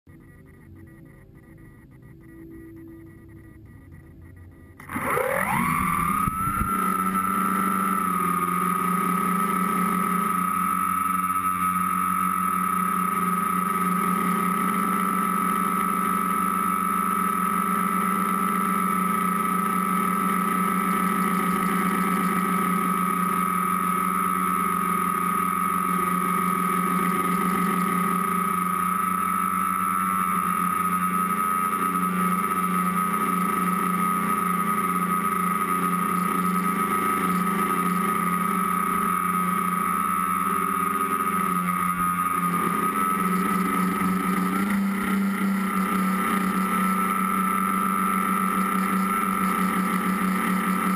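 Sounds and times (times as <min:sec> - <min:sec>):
drone motors buzzing: 0:00.1 - 0:50.9.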